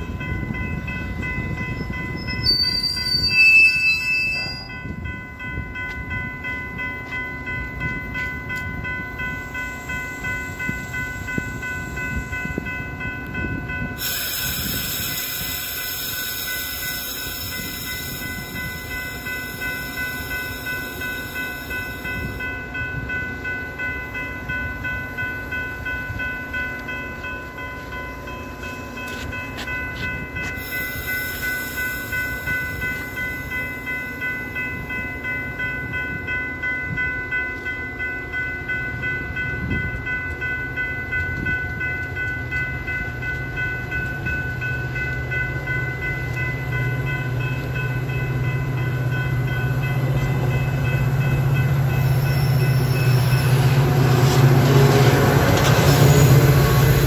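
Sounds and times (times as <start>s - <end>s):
diesel locomotive engine drone: 0.0s - 57.0s
train rumbling past: 0.0s - 57.0s.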